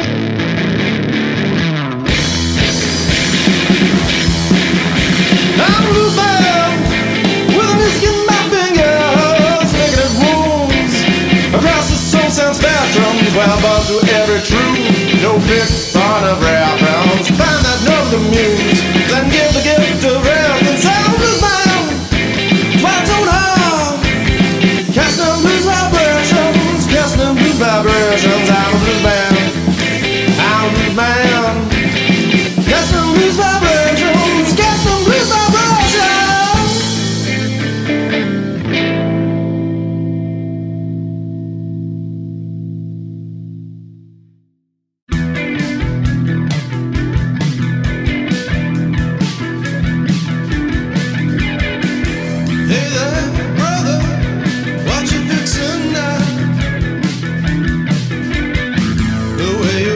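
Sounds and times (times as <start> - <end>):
rock music: 0.0 - 44.2, 45.0 - 59.9.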